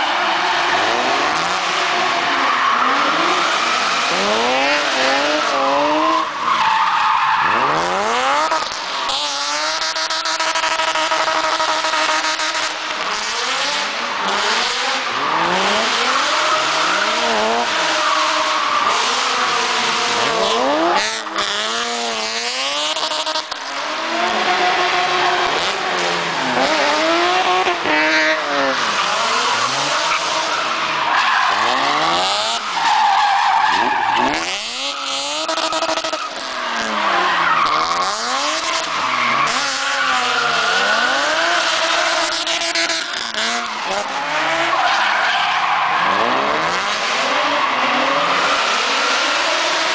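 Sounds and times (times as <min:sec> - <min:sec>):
car engine revving: 0:00.0 - 0:49.9
tyres squealing and skidding: 0:00.0 - 0:49.9.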